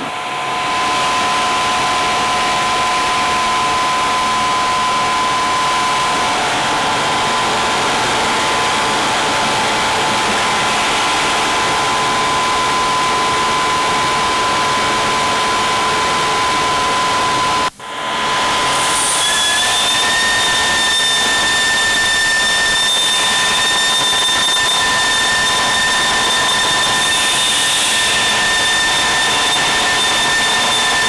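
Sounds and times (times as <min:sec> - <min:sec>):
sanding machine whining: 0:00.0 - 0:31.0.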